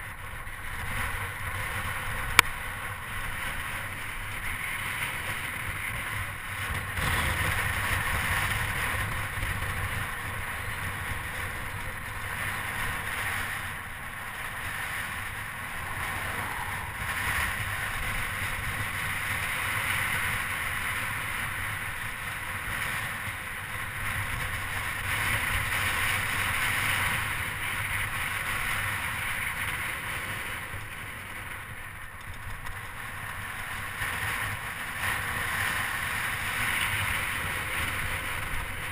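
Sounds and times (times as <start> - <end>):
tyres rolling on asphalt: 0.0 - 38.9
wind rushing over microphone: 0.0 - 38.9.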